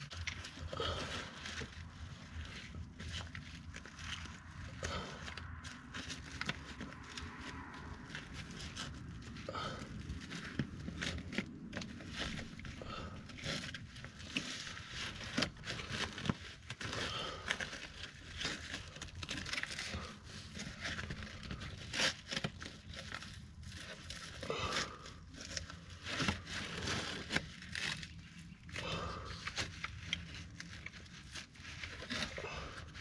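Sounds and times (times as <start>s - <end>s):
bandage crinkling and rustling: 0.0s - 33.0s.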